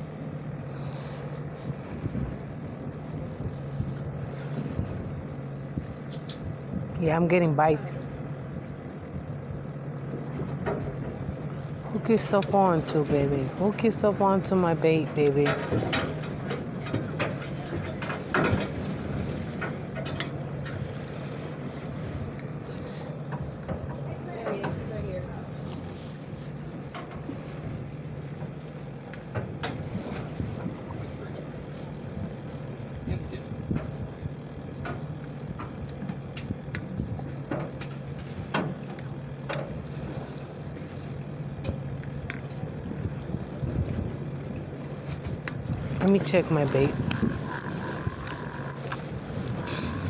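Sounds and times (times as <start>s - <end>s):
boat engine droning: 0.0s - 50.0s
wind: 0.0s - 50.0s.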